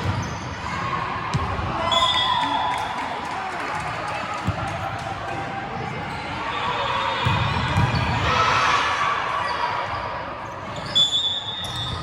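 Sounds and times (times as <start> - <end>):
gym crowd noise: 0.0 - 12.0.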